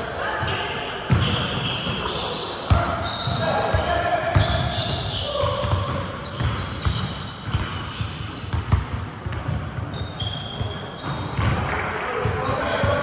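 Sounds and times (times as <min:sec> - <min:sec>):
basketballs dribbled on gym court: 0:00.0 - 0:13.0.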